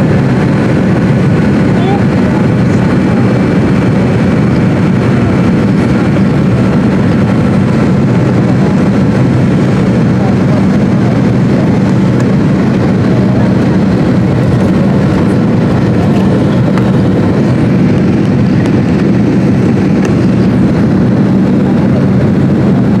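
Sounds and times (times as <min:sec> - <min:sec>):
airplane cabin engine drone: 0:00.0 - 0:23.0.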